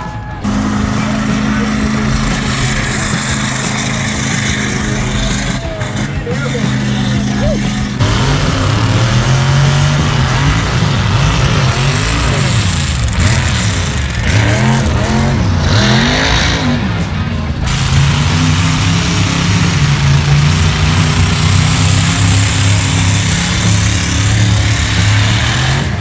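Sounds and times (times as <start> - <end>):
low engine drone: 0.0 - 26.0
truck engine accelerating hard: 0.0 - 26.0.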